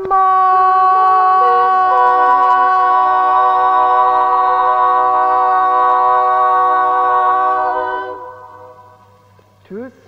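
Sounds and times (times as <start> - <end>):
women singing a cappella: 0.0 - 9.3.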